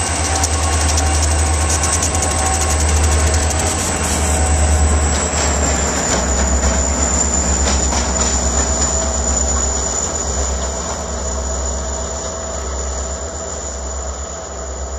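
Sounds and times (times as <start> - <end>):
train rumbling past: 0.0 - 14.9.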